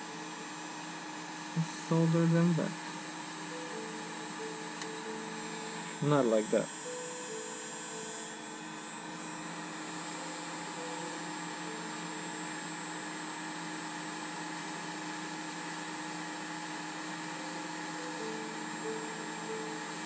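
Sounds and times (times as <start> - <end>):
hot-air gun blower hissing: 0.0 - 20.0.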